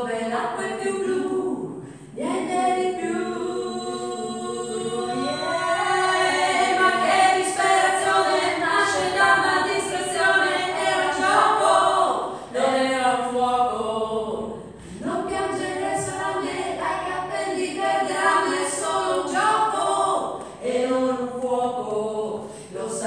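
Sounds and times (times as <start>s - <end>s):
women singing a cappella: 0.0s - 23.0s.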